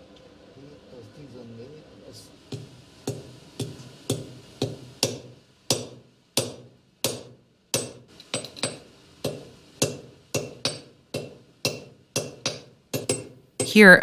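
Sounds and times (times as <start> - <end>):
hammer striking iron on anvil: 2.5 - 13.8.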